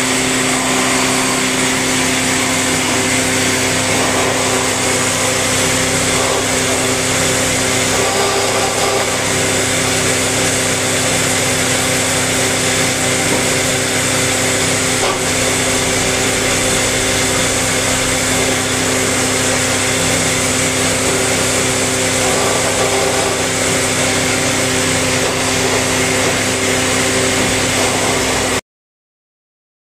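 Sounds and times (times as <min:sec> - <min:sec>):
boring machine motor hum: 0:00.0 - 0:28.6
drill bit cutting wood: 0:00.0 - 0:28.6.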